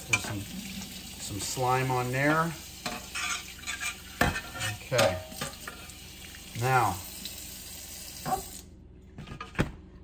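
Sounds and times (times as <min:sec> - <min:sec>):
faucet running into metal sink: 0:00.0 - 0:08.6.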